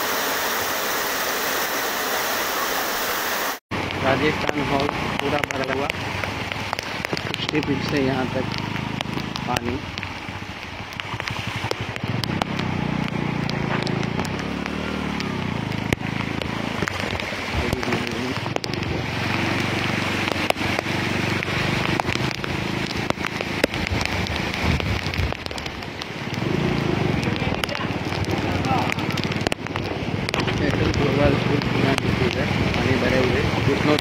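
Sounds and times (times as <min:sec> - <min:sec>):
heavy rain on standing water: 0:00.0 - 0:34.0.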